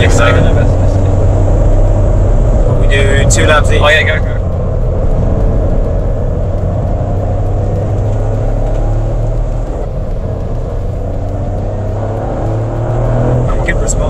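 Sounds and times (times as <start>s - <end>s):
car engine drone: 0.0s - 14.0s
road noise: 0.0s - 14.0s.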